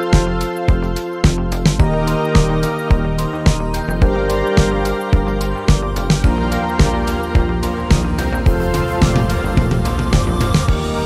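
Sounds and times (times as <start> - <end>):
sustained chords over steady beat: 0.0 - 11.0.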